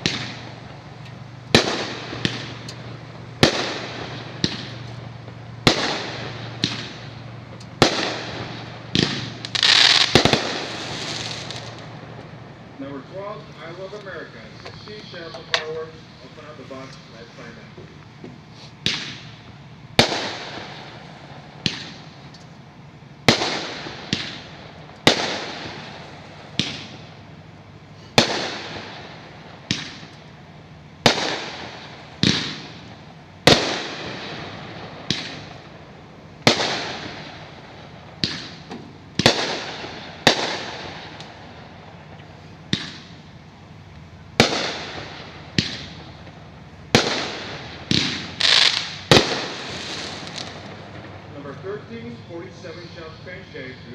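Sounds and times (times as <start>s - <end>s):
fireworks cake bangs: 0.0s - 22.3s, 23.2s - 27.2s, 28.1s - 30.2s, 31.0s - 43.3s, 44.2s - 53.9s.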